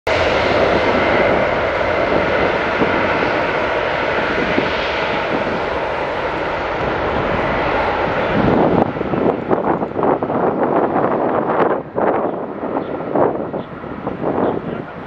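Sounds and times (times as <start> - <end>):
jet engine noise with whine: 0.1 - 15.0.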